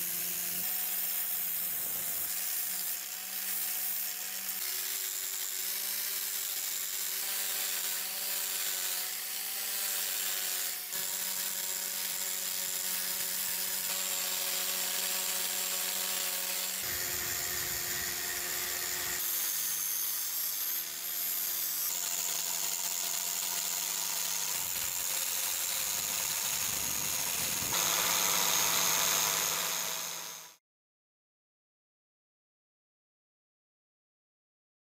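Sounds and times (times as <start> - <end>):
rotary polisher motor whine: 0.0 - 30.6.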